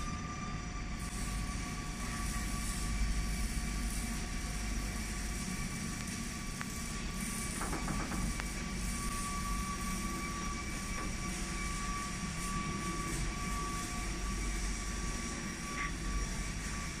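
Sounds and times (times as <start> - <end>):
high whine: 0.0 - 17.0.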